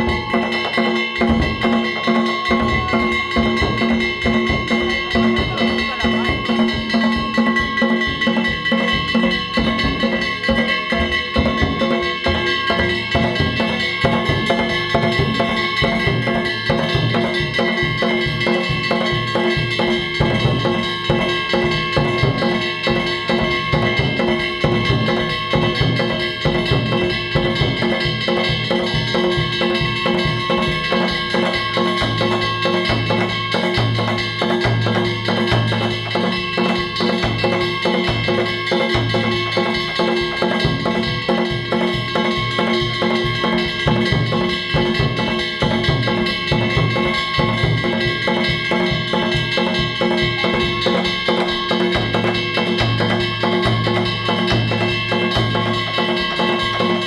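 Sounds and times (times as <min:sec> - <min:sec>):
small hand gongs clanging: 0:00.0 - 0:57.0
taiko drums beating fast: 0:00.0 - 0:57.0.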